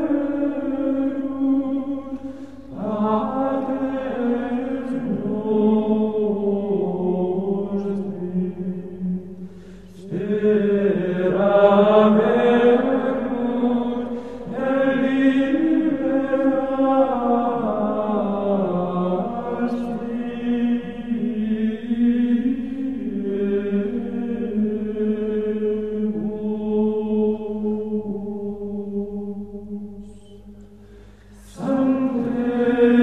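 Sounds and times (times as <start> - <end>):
slow vocal chant: 0.0 - 33.0.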